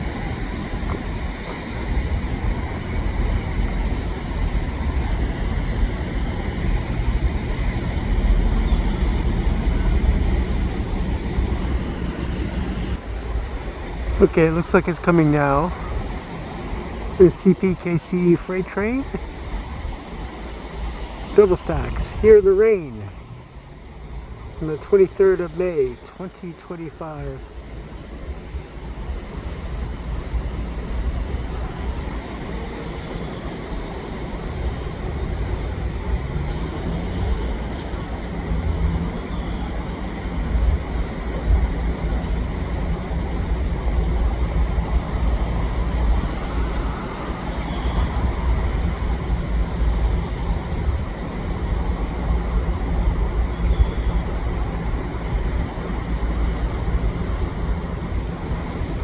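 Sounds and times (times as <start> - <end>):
diesel locomotive: 0.0 - 59.0.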